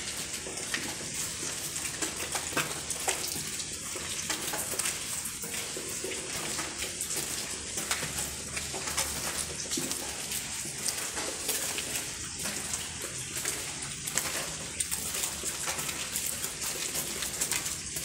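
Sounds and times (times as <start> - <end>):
water dripping in a tunnel: 0.0 - 18.0.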